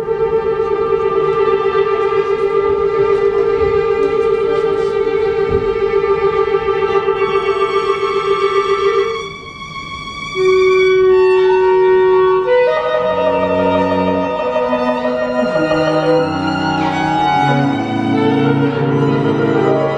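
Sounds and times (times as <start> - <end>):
chamber music quartet: 0.0 - 19.9.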